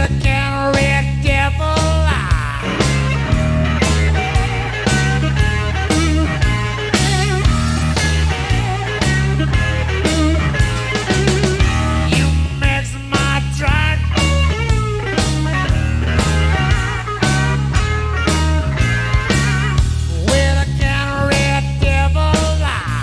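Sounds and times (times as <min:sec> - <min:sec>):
blues rock band playing: 0:00.0 - 0:23.0
electric guitar lead: 0:01.7 - 0:20.4.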